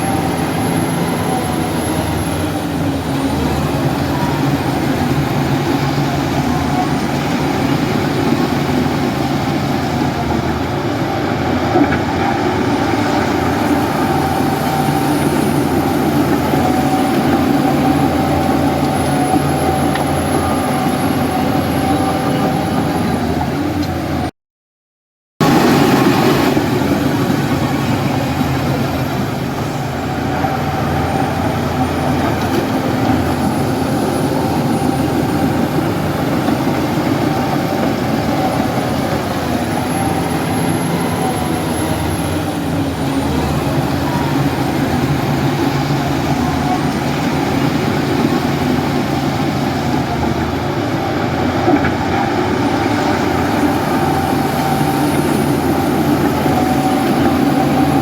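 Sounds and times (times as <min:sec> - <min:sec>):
bulldozer diesel engine running: 0:00.0 - 0:24.3, 0:25.4 - 0:58.0.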